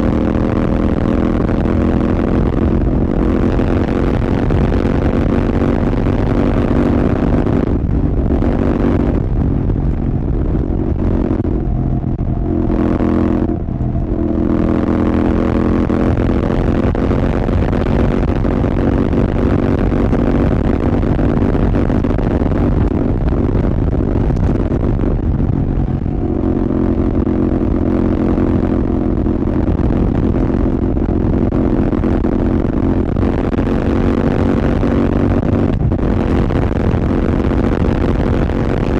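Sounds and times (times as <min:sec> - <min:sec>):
motorcycle engine riding at speed: 0:00.0 - 0:38.9
wind and road noise: 0:00.0 - 0:38.9.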